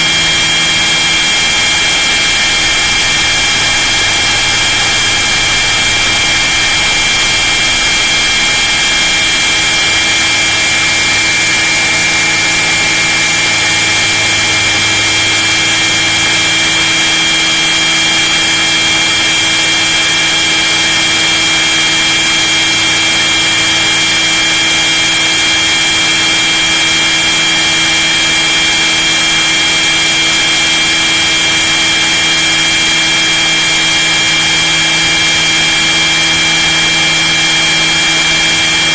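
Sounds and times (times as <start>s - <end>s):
model helicopter motor whining: 0.0s - 38.9s.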